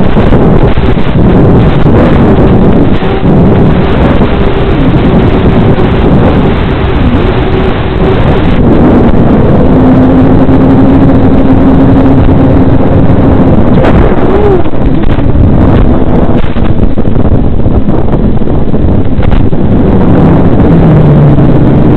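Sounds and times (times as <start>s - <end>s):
electric motor hum: 0.0s - 21.9s
wind rushing over microphone: 0.0s - 21.9s.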